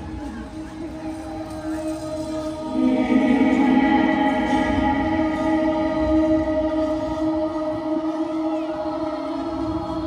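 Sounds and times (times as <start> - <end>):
sustained droning chord: 0.8 - 10.0.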